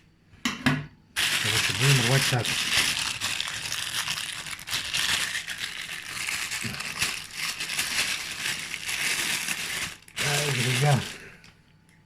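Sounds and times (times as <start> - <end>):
packaging being torn open: 1.2 - 11.3.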